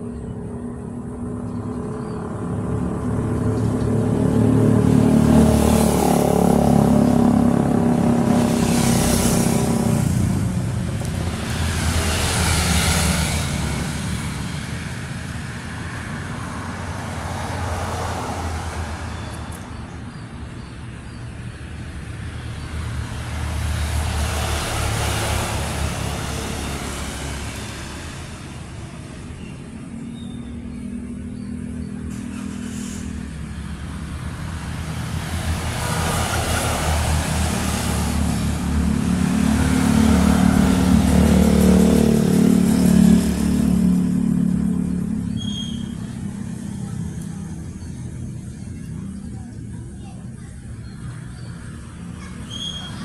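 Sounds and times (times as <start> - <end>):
engine running close by: 0.0 - 53.0
vehicles passing: 0.0 - 53.0.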